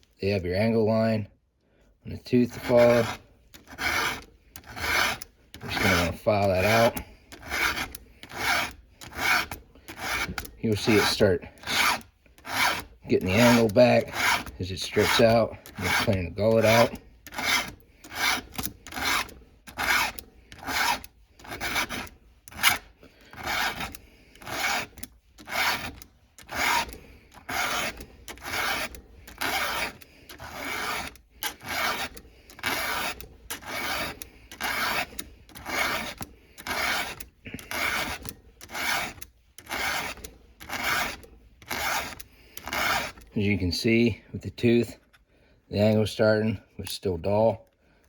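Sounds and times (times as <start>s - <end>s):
file rasping on chain tooth: 2.2s - 43.4s.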